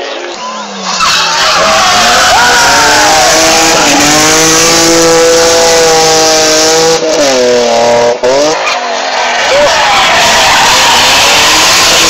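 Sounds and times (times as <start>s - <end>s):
race car engine accelerating: 0.6s - 12.0s.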